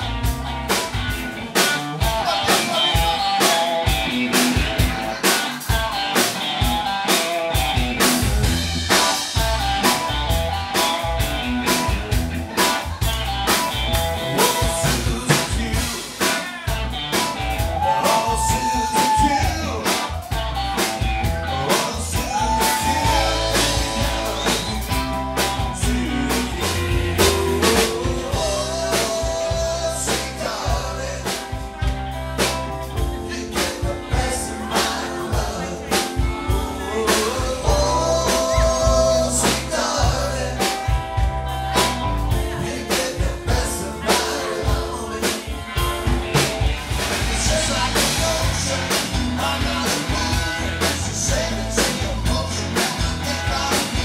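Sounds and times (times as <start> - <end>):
live blues-rock band: 0.0 - 54.0
steady drum beat: 0.0 - 54.0.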